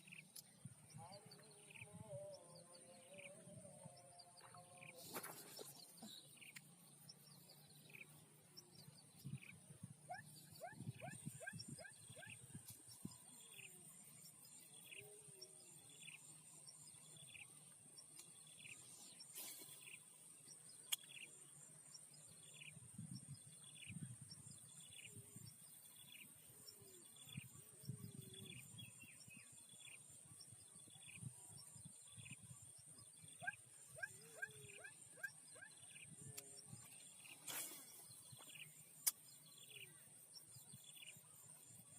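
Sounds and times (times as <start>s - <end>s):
insects buzzing: 0.0s - 41.9s.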